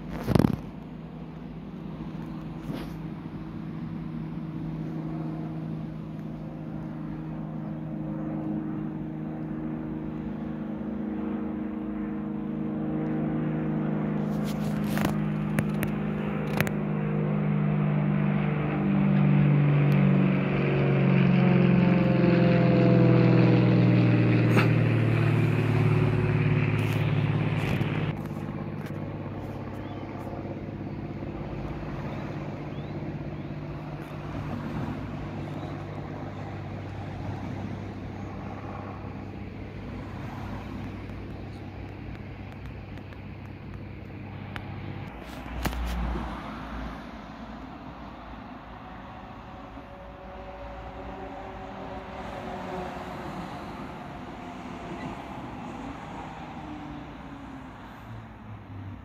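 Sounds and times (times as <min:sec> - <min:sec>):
propeller aircraft droning overhead: 0:00.0 - 0:59.0.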